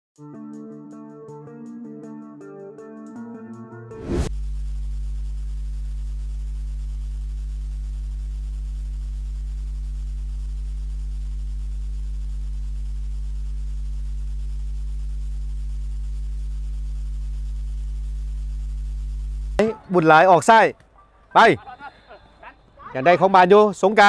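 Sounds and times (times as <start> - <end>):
electrical mains hum: 4.3 - 24.0.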